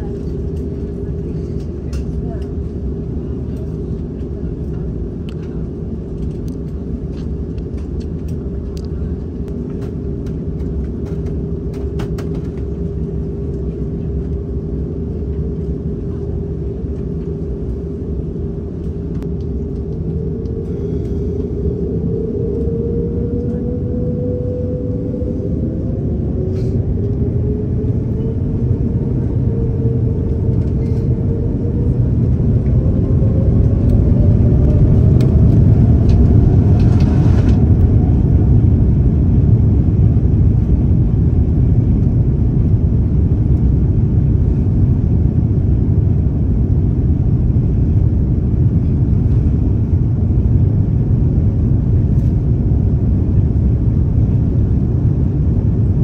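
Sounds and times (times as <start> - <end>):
jet engines at takeoff thrust: 0.0 - 56.0
engine whine rising: 9.5 - 56.0.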